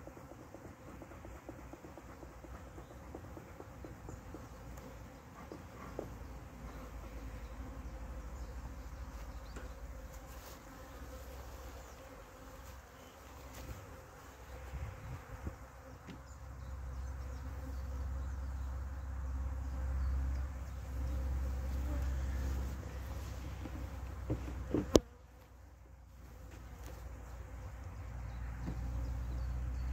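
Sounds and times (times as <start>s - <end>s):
bees buzzing: 0.1s - 29.9s.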